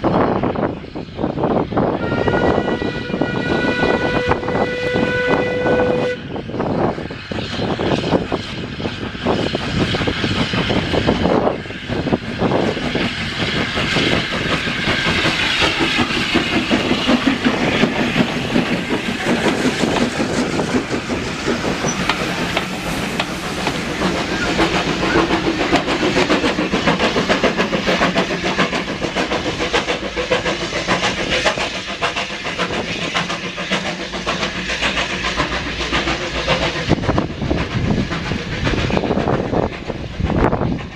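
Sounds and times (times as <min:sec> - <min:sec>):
steam hissing: 0:00.0 - 0:40.9
steam engine exhaust beats: 0:00.4 - 0:40.9.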